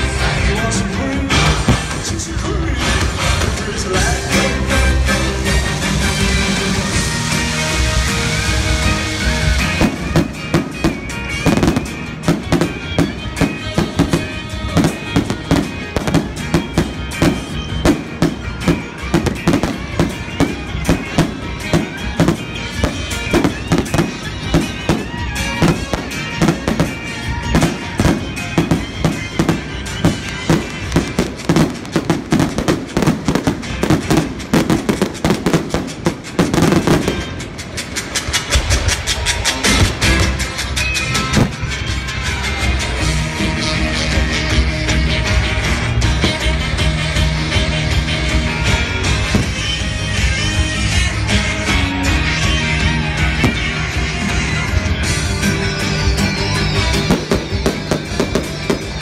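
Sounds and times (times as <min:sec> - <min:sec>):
fireworks bangs and crackles: 0:00.0 - 0:42.0, 0:45.2 - 0:50.5, 0:53.0 - 0:59.0
music playing: 0:00.0 - 0:59.0.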